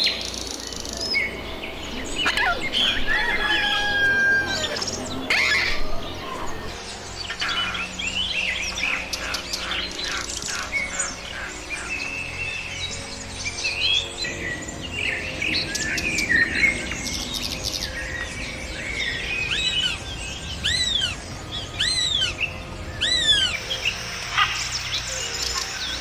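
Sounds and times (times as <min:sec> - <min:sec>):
arching whistled bird notes: 0:00.0 - 0:26.0
birds chirping and calling: 0:00.0 - 0:26.0.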